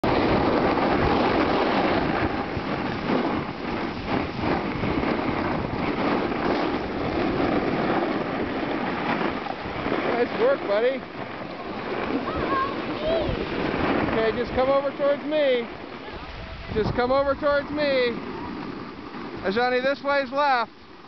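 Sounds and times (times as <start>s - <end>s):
skis scraping over snow: 0.0s - 21.0s
wind buffeting microphone: 0.0s - 21.0s.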